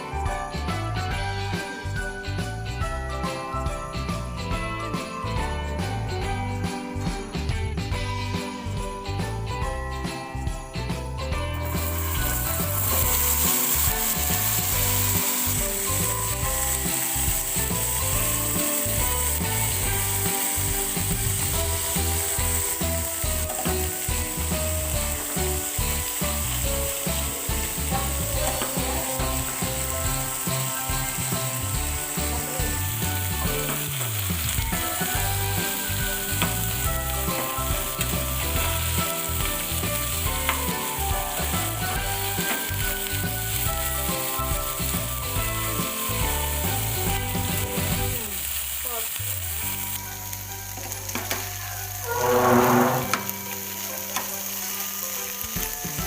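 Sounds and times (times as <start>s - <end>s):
background music: 0.0s - 56.0s
food sizzling in hot oil: 10.3s - 56.0s.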